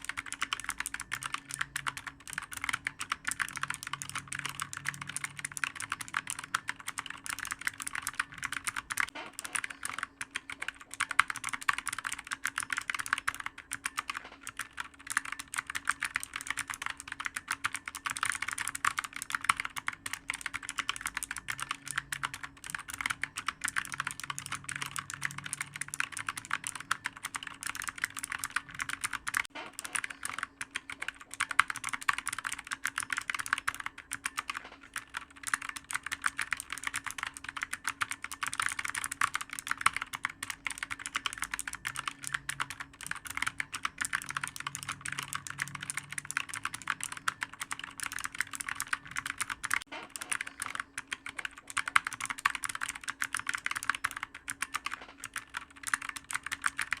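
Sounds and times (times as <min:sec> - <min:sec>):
typing on clicky keyboard: 0:00.0 - 0:57.0.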